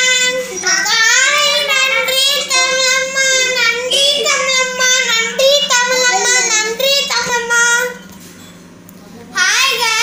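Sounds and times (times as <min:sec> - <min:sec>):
child singing: 0:00.0 - 0:08.0, 0:09.4 - 0:10.0.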